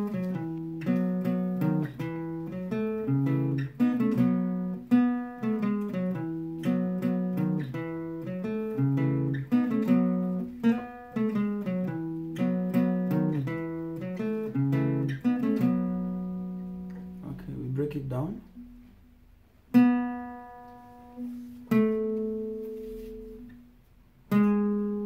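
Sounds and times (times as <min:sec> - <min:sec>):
guitar plucking notes: 0:00.0 - 0:25.0.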